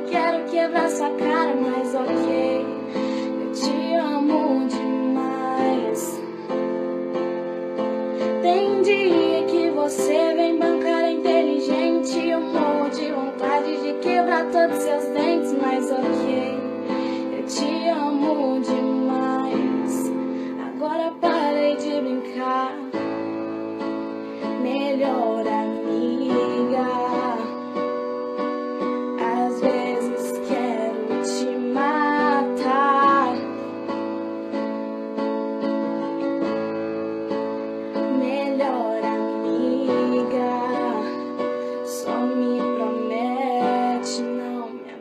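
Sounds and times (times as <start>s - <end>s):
pop song with guitar and keyboard: 0.0s - 45.0s
wavering wordless melody: 0.0s - 45.0s.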